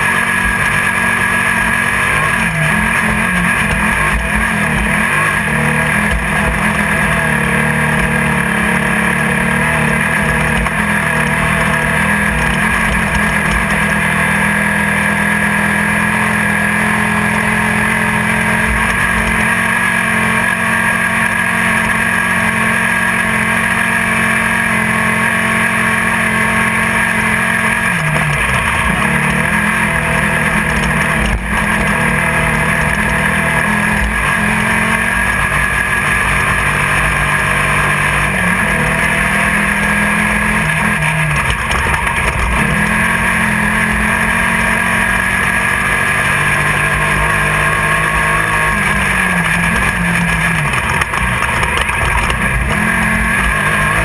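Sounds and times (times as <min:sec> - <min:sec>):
engine running hard: 0:00.0 - 0:54.0
wind and road noise: 0:00.0 - 0:54.0.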